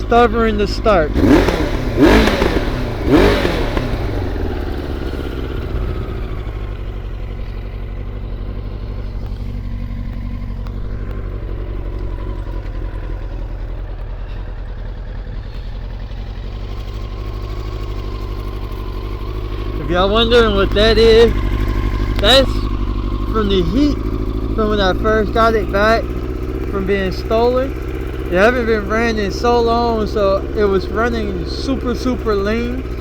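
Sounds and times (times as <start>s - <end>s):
motorcycle engine idling: 0.0s - 33.0s
motorcycle engine throttle blips: 0.0s - 33.0s.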